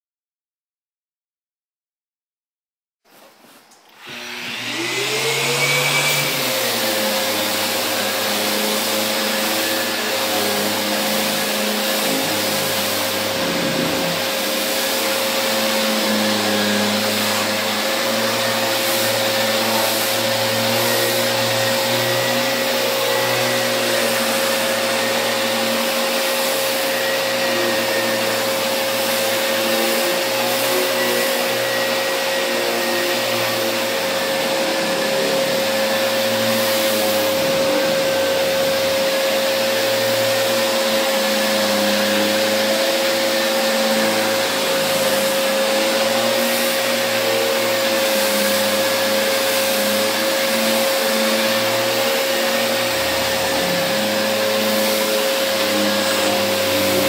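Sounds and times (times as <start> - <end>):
low hum of dust extractor: 3.1 - 57.0
orbital sander whining: 3.9 - 57.0.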